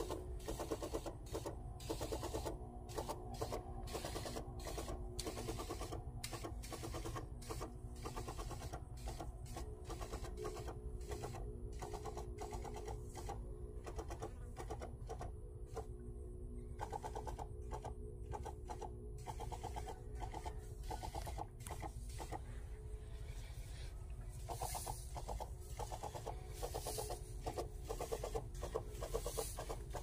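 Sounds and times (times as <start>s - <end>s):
sprayer pump humming and ticking: 0.0s - 30.0s.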